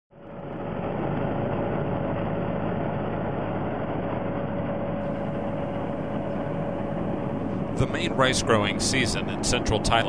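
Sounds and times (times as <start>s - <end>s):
mid-pitched whine: 0.1s - 10.0s
harvester engine running: 0.2s - 10.0s.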